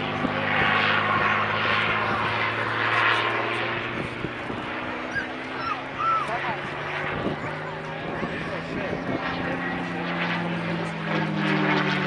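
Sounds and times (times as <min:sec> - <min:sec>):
propeller plane engine droning overhead: 0:00.0 - 0:12.0.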